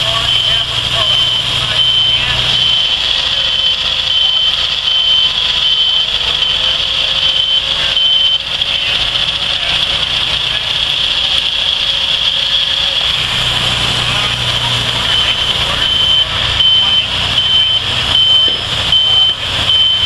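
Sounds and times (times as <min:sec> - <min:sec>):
high warning beeps: 0:00.0 - 0:13.3, 0:14.3 - 0:20.0
engines running: 0:00.0 - 0:20.0
steady high tone: 0:00.0 - 0:20.0.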